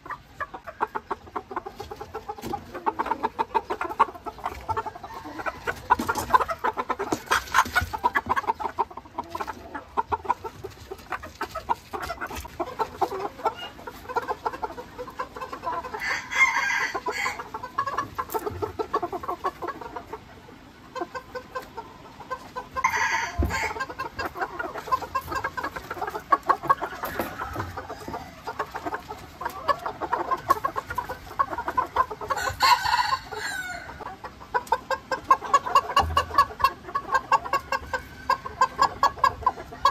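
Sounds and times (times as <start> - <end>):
chickens clucking: 0.0 - 39.9
loud chicken calls: 0.0 - 39.9.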